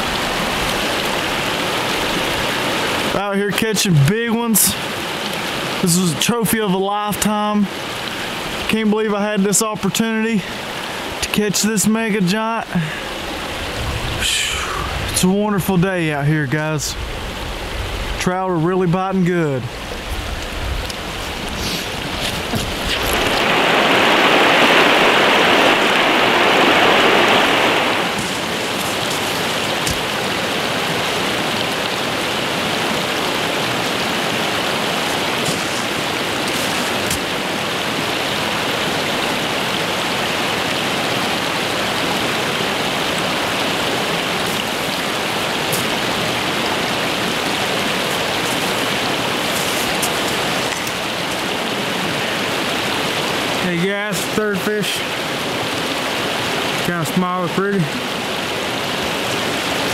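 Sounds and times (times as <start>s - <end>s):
creek water over rocks: 0.0s - 59.9s.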